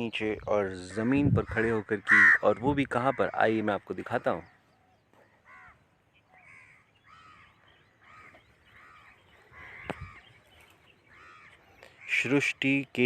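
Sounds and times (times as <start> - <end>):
distant crows cawing: 0.8 - 12.7.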